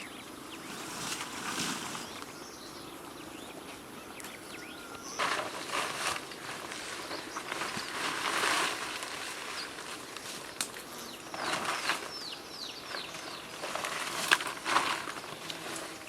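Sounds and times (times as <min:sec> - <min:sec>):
rustling in leaves: 0:00.0 - 0:16.0.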